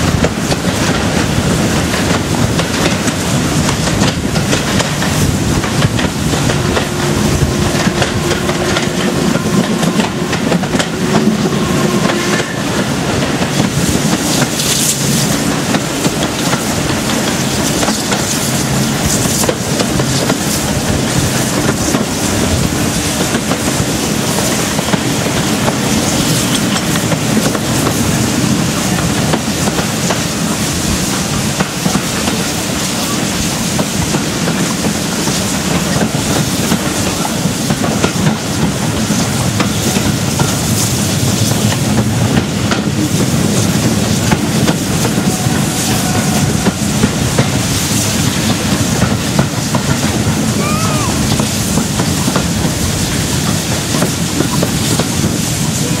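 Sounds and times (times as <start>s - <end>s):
steam locomotive exhaust: 0.0s - 56.0s.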